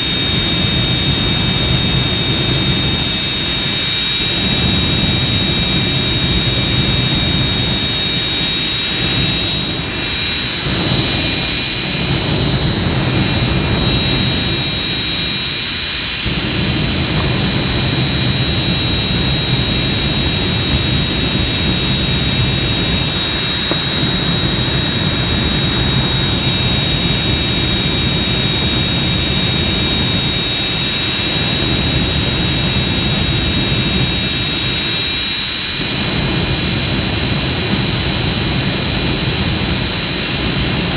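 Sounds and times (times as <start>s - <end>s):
jet engine running: 0.0s - 40.9s.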